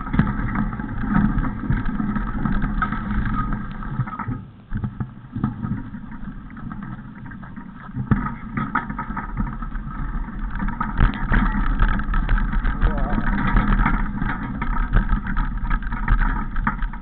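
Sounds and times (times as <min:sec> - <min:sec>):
vehicle rumble on rough ground: 0:00.0 - 0:17.0.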